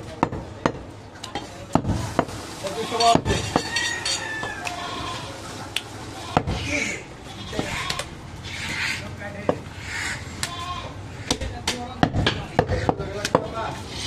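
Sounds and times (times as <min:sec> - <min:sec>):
voices talking: 0:00.0 - 0:14.0.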